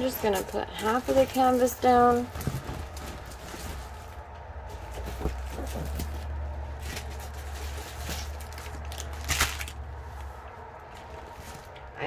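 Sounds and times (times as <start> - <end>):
canvas rustling: 0.0 - 12.0.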